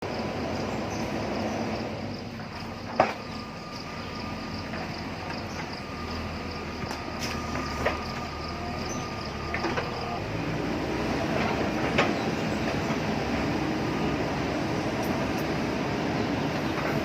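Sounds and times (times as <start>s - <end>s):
diesel engine under load: 0.0s - 17.0s.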